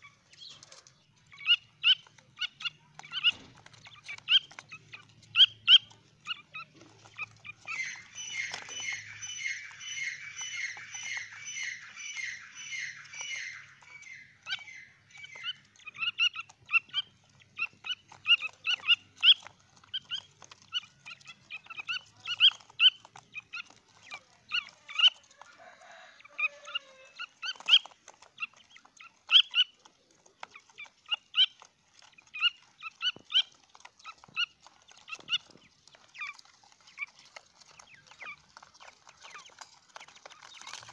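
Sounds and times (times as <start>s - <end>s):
young birds calling: 0.0s - 40.9s.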